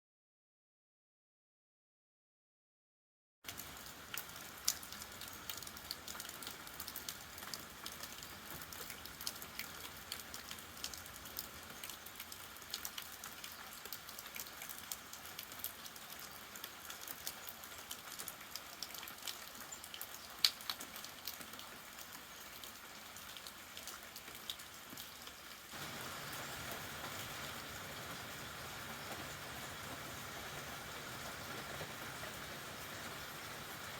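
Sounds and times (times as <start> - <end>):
rain patter: 3.4 - 33.9.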